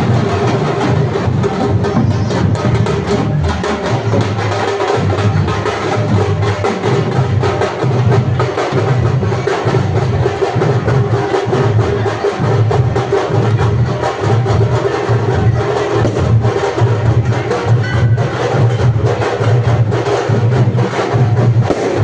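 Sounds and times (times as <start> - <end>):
fast folk percussion drumming: 0.0 - 22.0.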